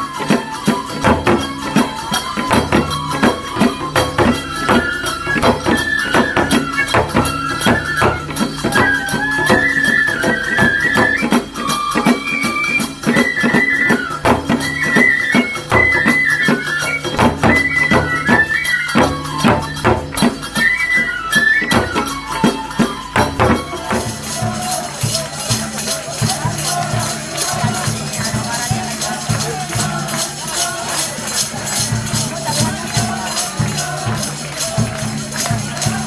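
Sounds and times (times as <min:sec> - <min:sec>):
drum and metal percussion: 0:00.0 - 0:36.0
high flute melody: 0:00.0 - 0:36.0.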